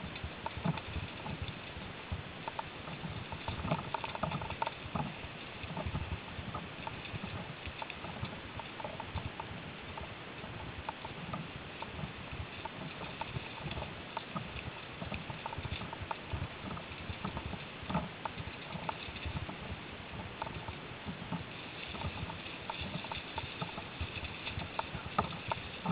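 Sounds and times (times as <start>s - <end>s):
bike knocking and rattling: 0.0s - 25.9s
bike tyres on dirt trail: 0.0s - 25.9s
steady background hiss: 0.0s - 25.9s.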